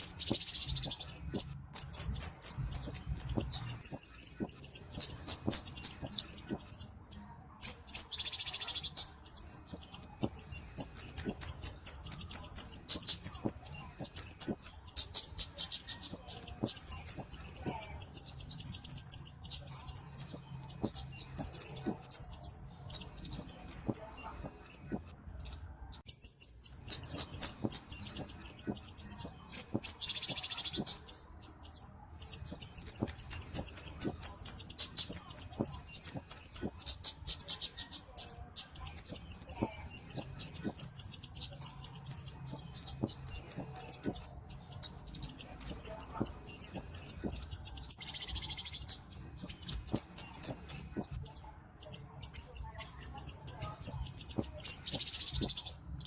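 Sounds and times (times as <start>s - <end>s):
songbird chips and twitters: 0.0s - 56.0s.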